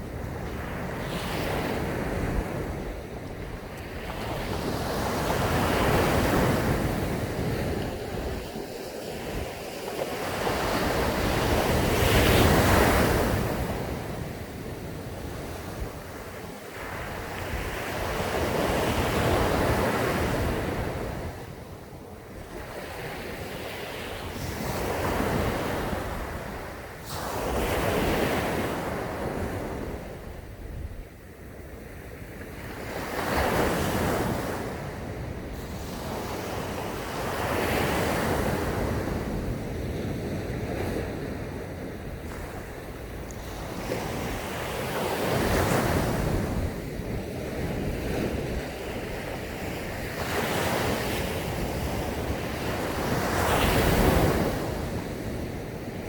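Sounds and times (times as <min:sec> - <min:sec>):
waves breaking on beach: 0:00.0 - 0:30.5, 0:31.2 - 0:56.0
wind rumbling on microphone: 0:00.0 - 0:56.0.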